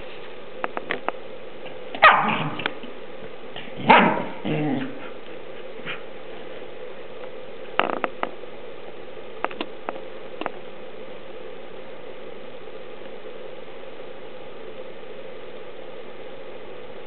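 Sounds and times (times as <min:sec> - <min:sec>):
background hiss and hum: 0:00.0 - 0:17.0.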